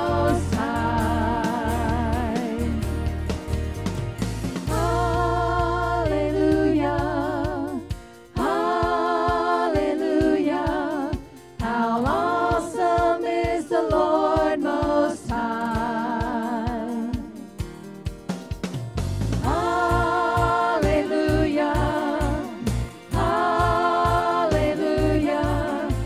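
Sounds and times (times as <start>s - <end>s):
women singing gospel: 0.0s - 3.1s, 4.7s - 17.5s, 19.4s - 26.0s
steady beat: 0.0s - 26.0s.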